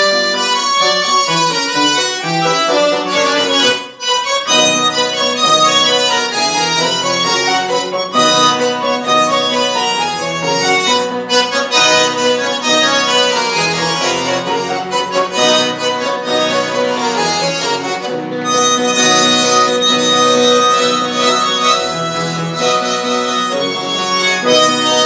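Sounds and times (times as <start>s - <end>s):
accordions playing: 0.0s - 25.0s
piano accompaniment: 0.0s - 25.0s.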